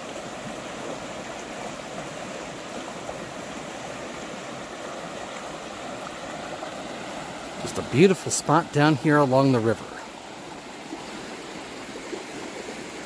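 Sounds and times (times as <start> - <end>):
river rapids rushing over rocks: 0.0 - 13.0.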